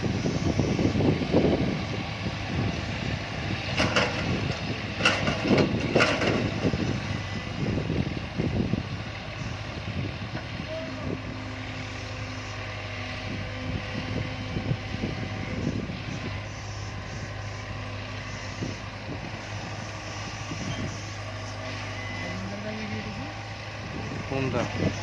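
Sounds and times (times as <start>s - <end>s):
diesel machinery engine droning: 0.0s - 25.0s.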